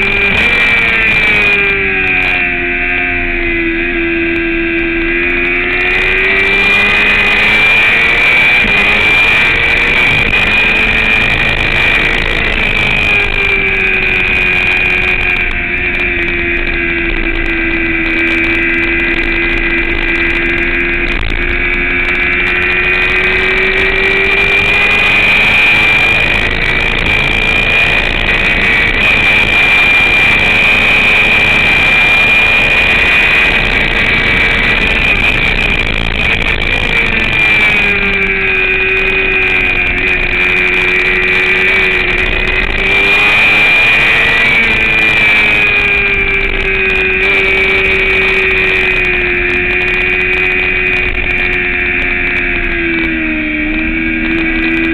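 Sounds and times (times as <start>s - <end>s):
motorcycle engine revving: 0.0s - 54.9s
wind noise: 0.0s - 54.9s.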